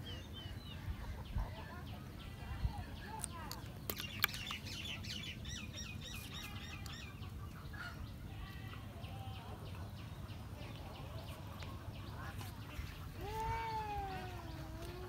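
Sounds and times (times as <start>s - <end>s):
low background noise: 0.0s - 15.0s
small birds chirping: 0.0s - 15.0s.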